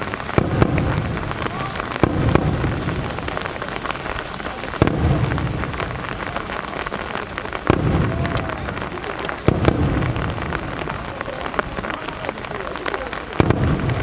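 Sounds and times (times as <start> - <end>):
firework shells bursting: 0.0 - 14.0
steady rain: 0.0 - 14.0.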